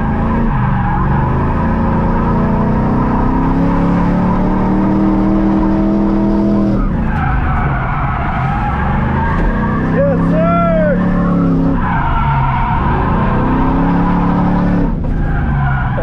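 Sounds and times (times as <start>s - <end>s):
car engine at high revs: 0.0s - 16.0s
tyres skidding: 0.0s - 16.0s.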